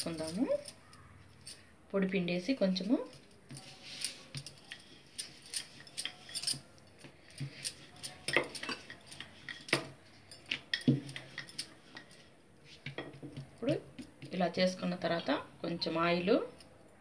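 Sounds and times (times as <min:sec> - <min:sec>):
glass bangles clinking: 0:00.0 - 0:01.7, 0:02.4 - 0:16.8.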